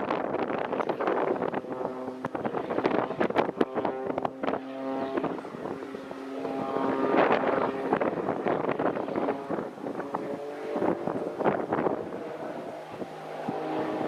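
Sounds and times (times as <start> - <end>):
aircraft engine droning: 0.0 - 14.0
wind buffeting microphone: 0.0 - 14.0.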